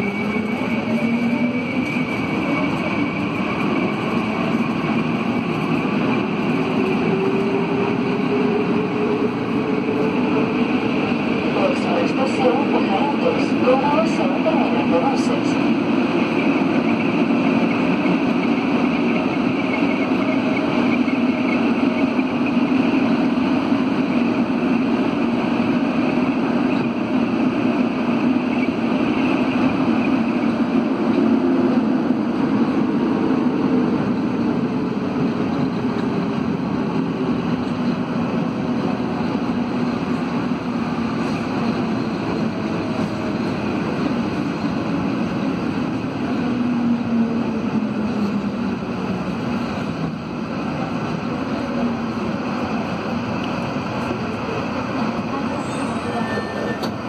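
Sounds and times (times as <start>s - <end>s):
metro train rumbling in tunnel: 0.0s - 57.0s.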